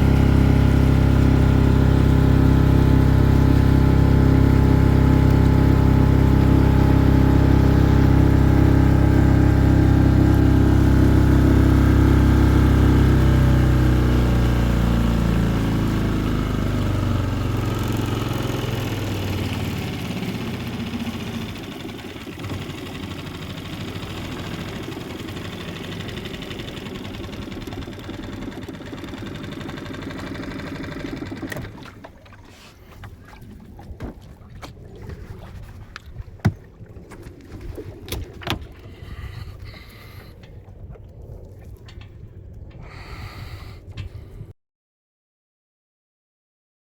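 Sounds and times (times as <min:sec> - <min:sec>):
water wash: 0:00.0 - 0:43.0
boat engine running: 0:00.0 - 0:44.5
wind: 0:00.0 - 0:44.6.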